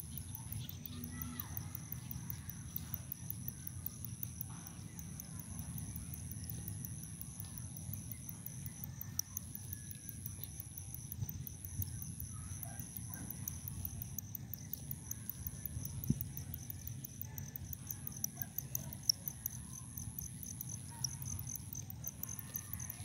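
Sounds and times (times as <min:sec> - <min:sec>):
high-pitched whine with ticking: 0:00.0 - 0:23.0.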